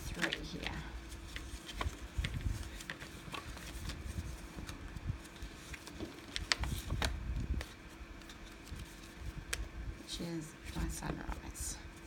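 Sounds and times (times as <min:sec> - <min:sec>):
paper rustling and crackling: 0:00.0 - 0:12.0.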